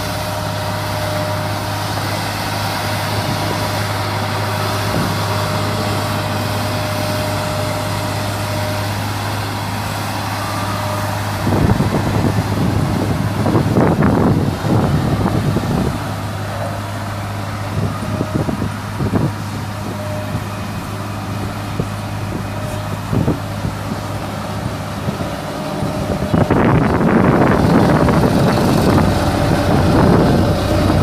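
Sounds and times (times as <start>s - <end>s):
road roller engine running: 0.0s - 31.0s.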